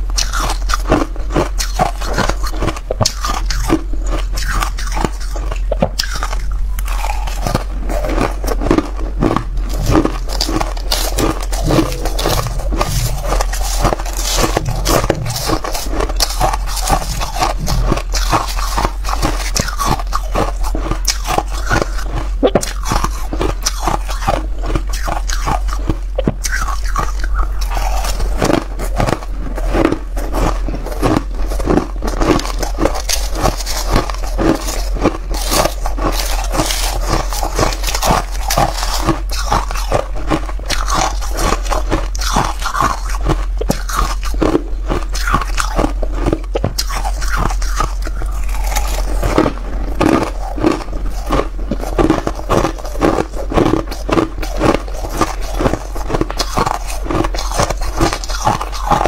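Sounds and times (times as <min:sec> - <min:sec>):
crunching and chewing ice: 0:00.0 - 0:59.0.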